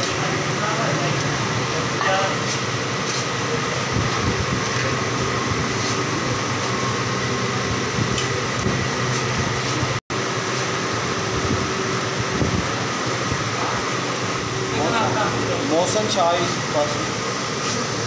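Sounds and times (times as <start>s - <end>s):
workshop machinery hum: 0.0s - 18.0s.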